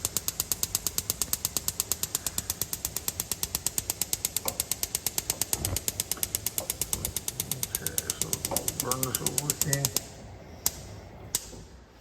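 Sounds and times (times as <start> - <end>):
gas igniter clicking rapidly: 0.0 - 11.6.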